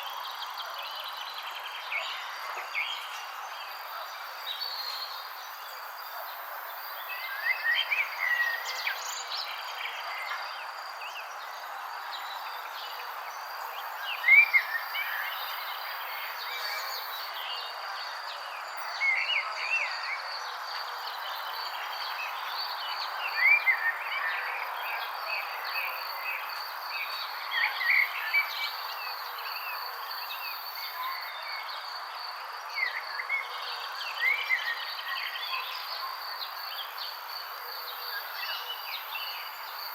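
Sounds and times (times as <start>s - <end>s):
outdoor ambience hiss: 0.0s - 39.9s
songbirds chirping: 0.0s - 39.9s.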